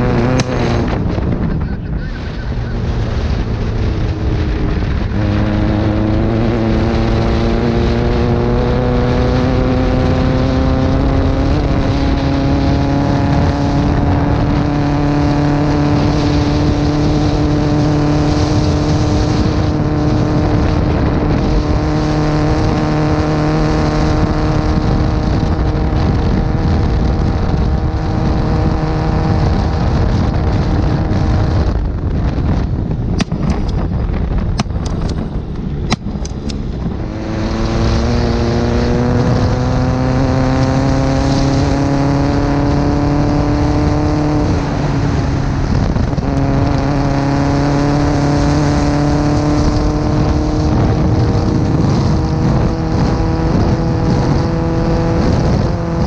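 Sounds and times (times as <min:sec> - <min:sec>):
buggy engine revving: 0:00.0 - 0:56.0.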